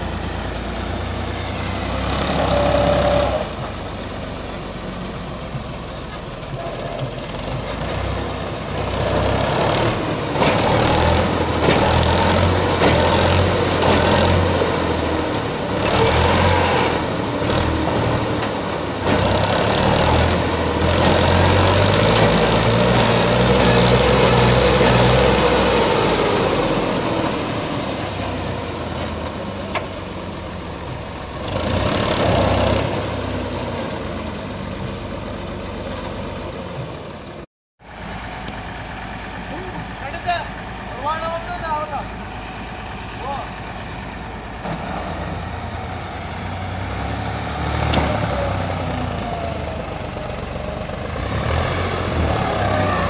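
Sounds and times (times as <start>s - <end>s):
tractor diesel engine revving: 0.0s - 53.0s.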